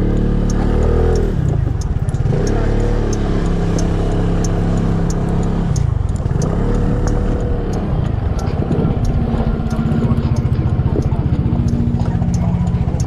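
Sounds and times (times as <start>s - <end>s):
motor scooter engine: 0.0s - 13.0s.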